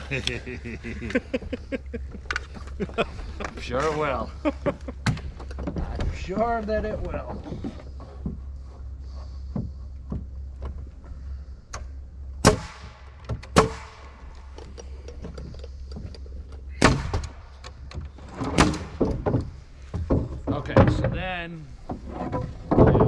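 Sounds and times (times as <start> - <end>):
steady low hum: 0.0 - 23.0
wood knocks and thumps: 1.1 - 11.2, 12.4 - 23.0.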